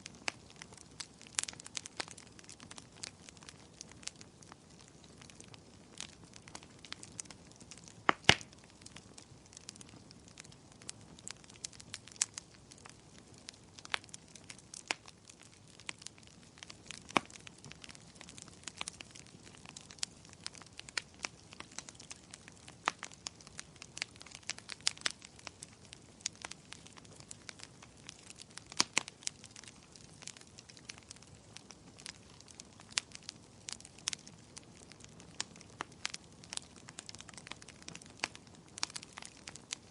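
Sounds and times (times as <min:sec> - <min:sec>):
faint steady hiss: 0:00.0 - 0:39.9
firewood crackling and popping: 0:00.0 - 0:39.9.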